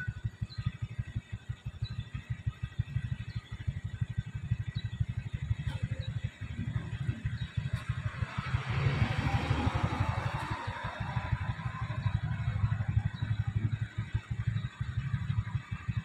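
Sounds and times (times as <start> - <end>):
vehicle engine idling: 0.0 - 16.0
vehicle moving off with road noise: 0.0 - 16.0.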